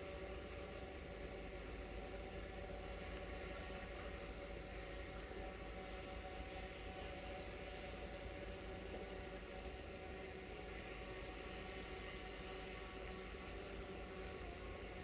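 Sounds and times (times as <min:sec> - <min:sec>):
high-pitched insect trill: 0:00.3 - 0:15.0.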